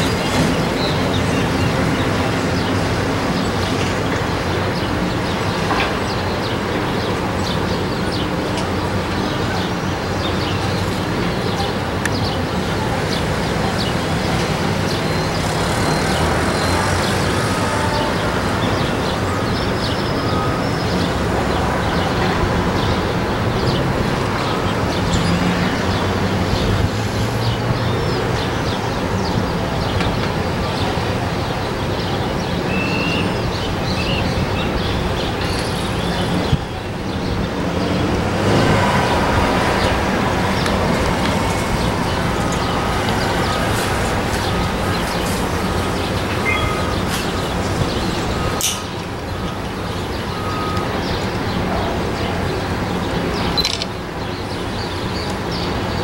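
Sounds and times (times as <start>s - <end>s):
engines and traffic rumble: 0.0s - 56.0s.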